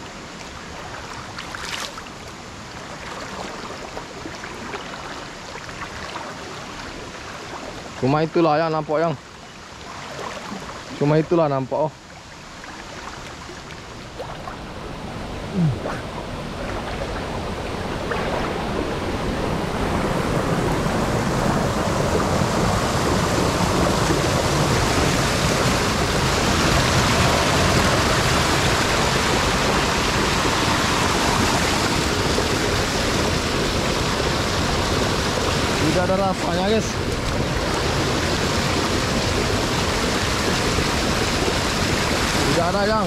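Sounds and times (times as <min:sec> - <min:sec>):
water rushing over rocks: 0:00.0 - 0:43.0.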